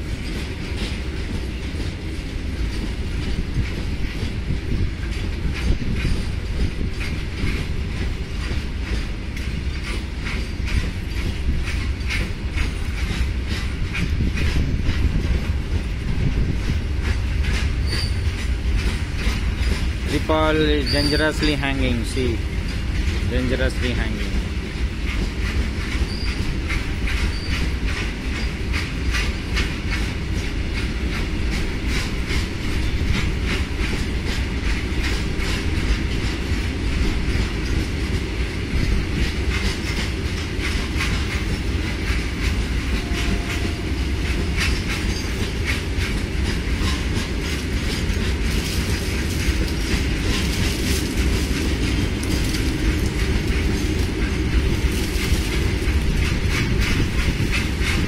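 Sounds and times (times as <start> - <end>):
wheels clacking on rail joints: 0.0 - 58.0.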